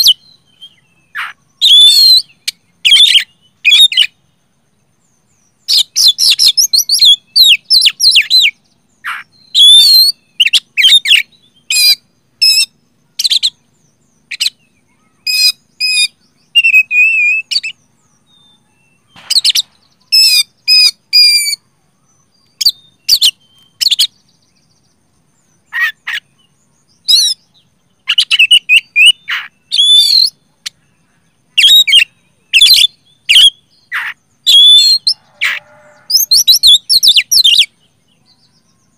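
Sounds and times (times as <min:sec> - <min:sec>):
magpie-robin singing: 0:00.0 - 0:04.3, 0:05.1 - 0:38.9.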